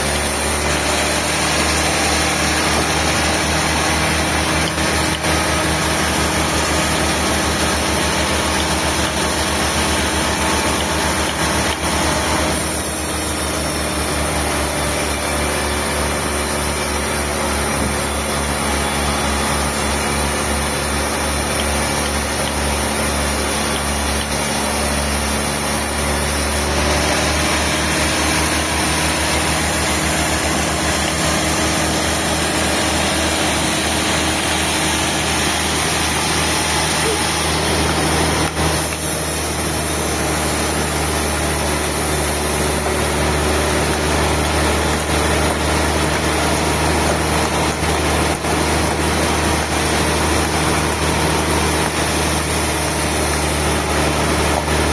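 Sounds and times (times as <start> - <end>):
sawmill machinery droning: 0.0 - 54.9.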